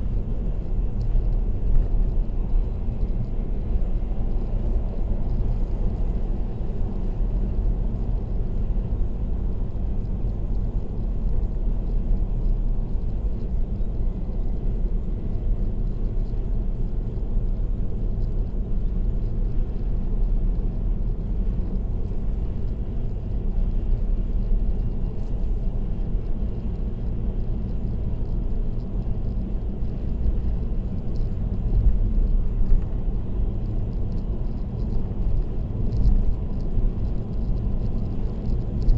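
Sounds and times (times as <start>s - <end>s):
car road noise rumble: 0.0s - 38.9s.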